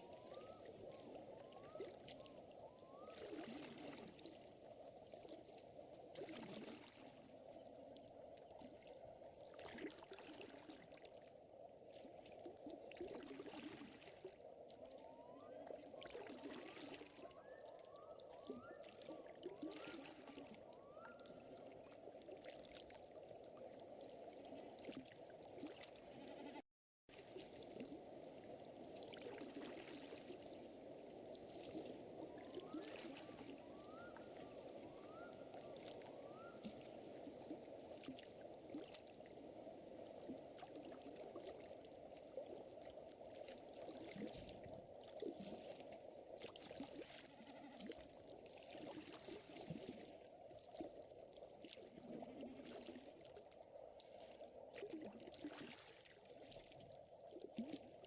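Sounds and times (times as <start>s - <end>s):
water-like wash: 0.0s - 58.0s.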